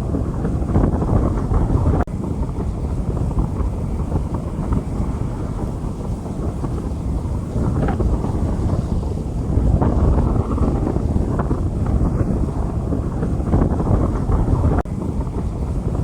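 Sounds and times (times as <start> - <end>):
heavy rain on a street: 0.0 - 16.0.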